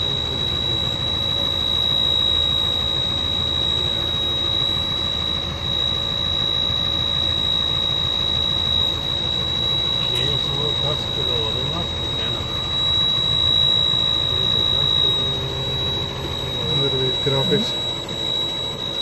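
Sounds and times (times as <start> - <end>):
diesel engine idling: 0.0 - 19.0
high-pitched whine: 0.0 - 19.0.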